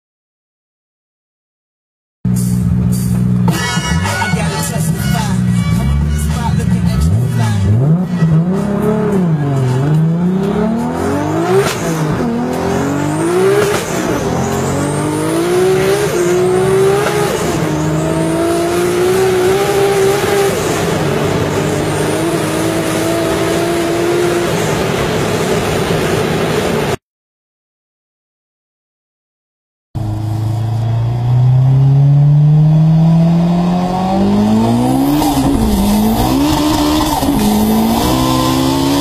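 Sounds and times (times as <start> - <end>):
car engine at full throttle: 2.3 - 27.0, 30.0 - 39.0.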